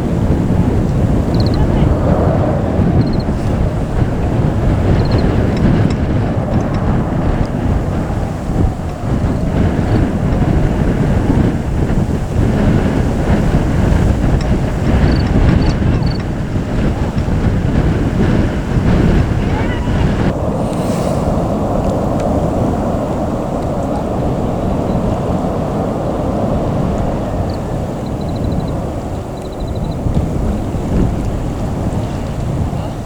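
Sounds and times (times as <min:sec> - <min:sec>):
jet engines rumbling: 0:00.0 - 0:33.0
wind buffeting microphone: 0:00.0 - 0:33.0.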